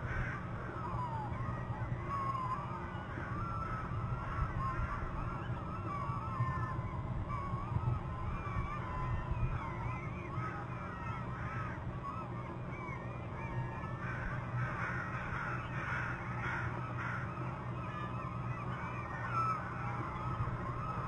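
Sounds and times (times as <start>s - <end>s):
steady low hum: 0.0s - 21.0s
wild birds calling: 0.0s - 21.0s.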